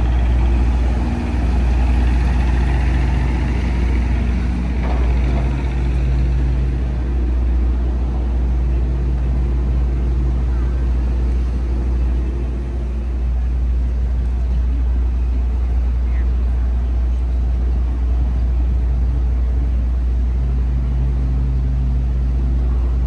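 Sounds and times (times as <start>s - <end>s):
engine idling: 0.0s - 23.0s
street traffic: 0.0s - 23.0s.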